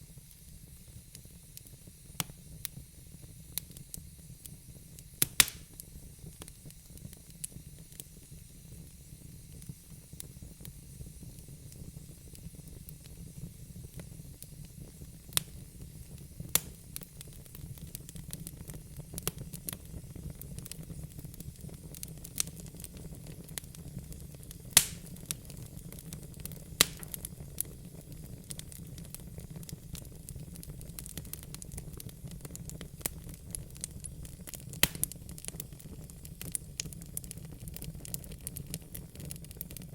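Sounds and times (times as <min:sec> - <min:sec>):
wood fire crackling: 0:00.0 - 0:39.9
sharp pops of fire: 0:00.2 - 0:39.9.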